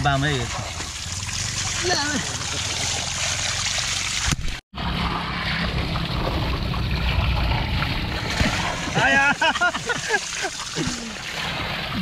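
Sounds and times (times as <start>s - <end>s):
stream water running: 0.0s - 12.0s.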